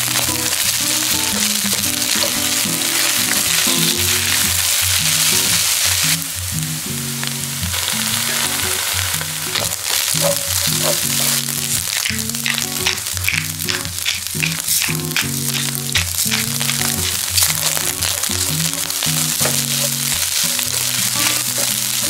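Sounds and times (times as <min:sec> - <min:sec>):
rice sizzling in a hot pan: 0:00.0 - 0:22.0.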